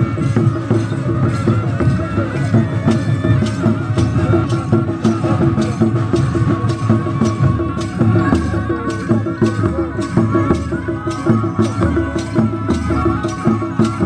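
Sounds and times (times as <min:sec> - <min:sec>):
drums beating: 0:00.0 - 0:14.0
sustained melody instrument: 0:00.0 - 0:14.0.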